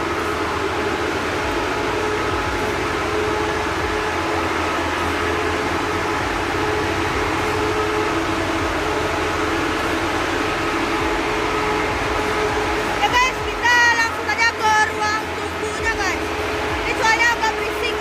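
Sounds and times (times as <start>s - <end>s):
mechanical hum with held tones: 0.0s - 18.0s.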